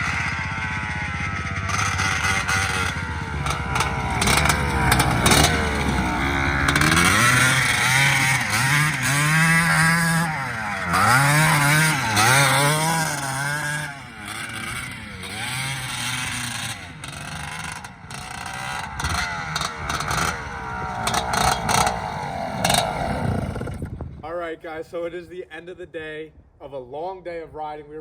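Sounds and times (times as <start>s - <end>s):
small engine revving hard: 0.0s - 24.0s.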